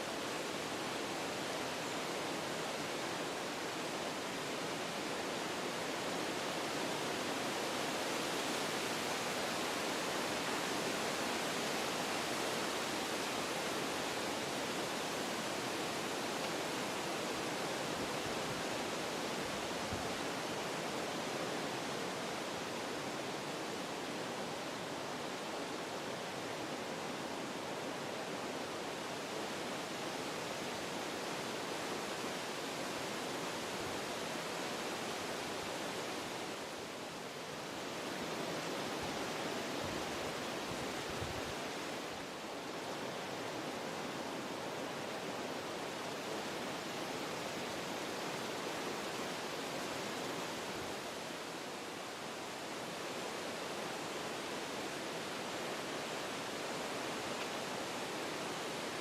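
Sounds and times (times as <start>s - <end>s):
wind rushing through trees: 0.0s - 59.0s.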